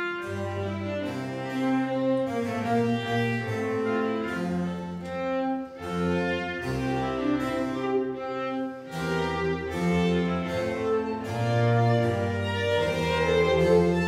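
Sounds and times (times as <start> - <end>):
string ensemble playing classical music: 0.0 - 14.0.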